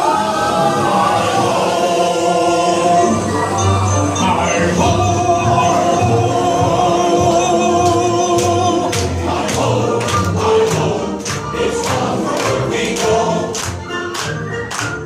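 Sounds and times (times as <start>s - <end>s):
group of voices singing: 0.0s - 14.6s.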